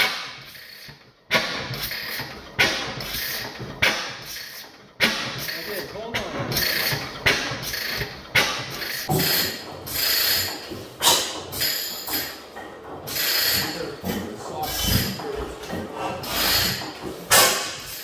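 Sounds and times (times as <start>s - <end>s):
crank and valve gear clatter: 0.0s - 18.0s
stationary engine running: 0.0s - 18.0s.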